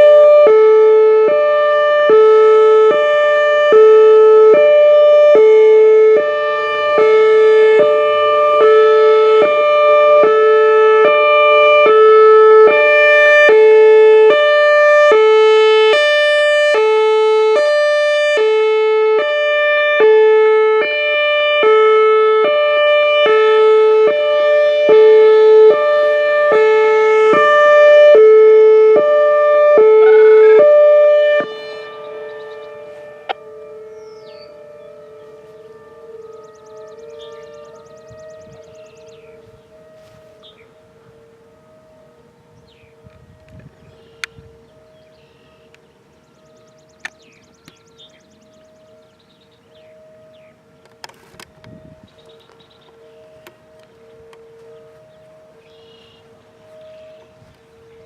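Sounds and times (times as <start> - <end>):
warning siren hi-lo tone: 0.0 - 58.0.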